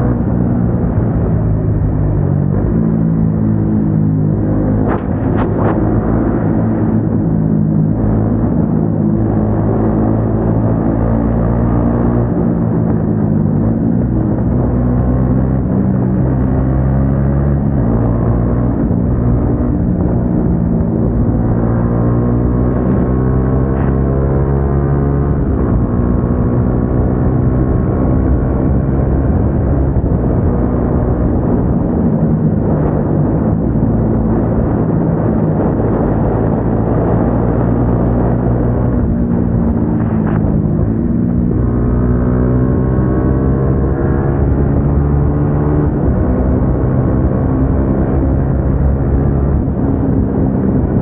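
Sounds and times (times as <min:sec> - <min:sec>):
motorcycle engine cruising: 0:00.0 - 0:51.0.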